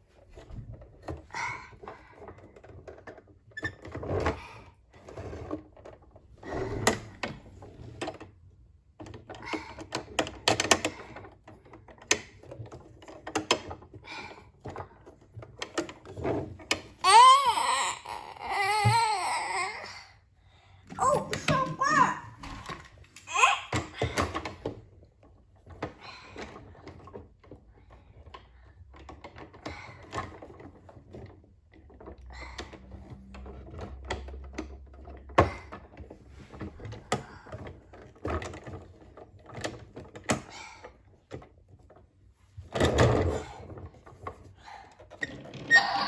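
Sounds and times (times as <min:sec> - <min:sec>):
toys clicking and knocking: 0:00.3 - 0:19.9, 0:20.9 - 0:46.0.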